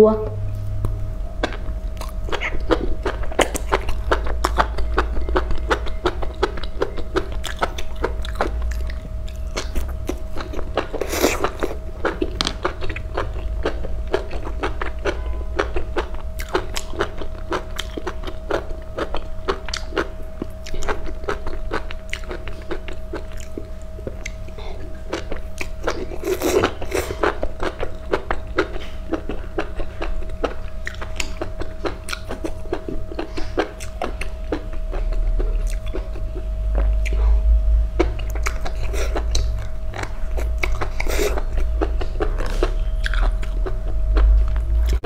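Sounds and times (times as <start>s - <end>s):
low hum: 0.0s - 45.0s
crunchy chewing: 0.8s - 37.4s, 38.0s - 45.0s.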